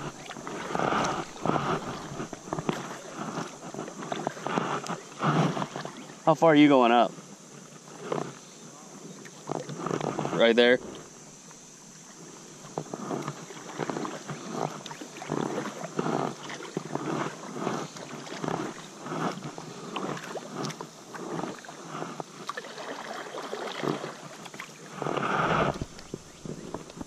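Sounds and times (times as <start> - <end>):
rustle: 0.0 - 27.0
water lapping against kayak hull: 0.0 - 27.0.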